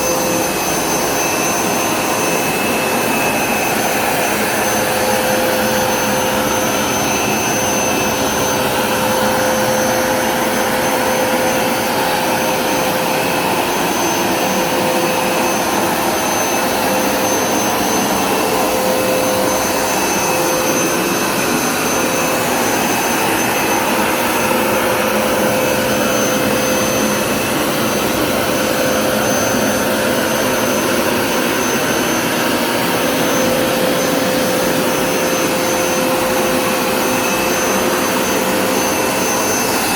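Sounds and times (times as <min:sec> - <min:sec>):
carpet cleaner motor whining: 0:00.0 - 0:39.9.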